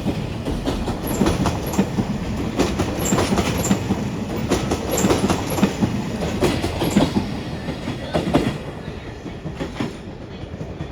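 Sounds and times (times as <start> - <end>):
train rumble: 0.0 - 10.9
train wheels clattering over joints: 0.0 - 10.9.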